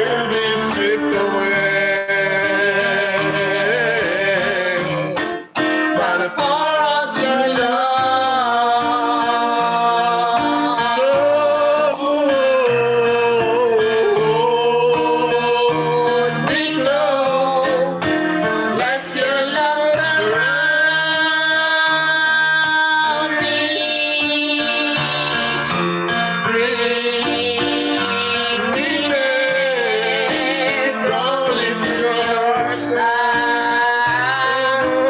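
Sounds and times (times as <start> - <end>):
instrumental accompaniment: 0.0 - 35.0
person singing: 0.0 - 35.0.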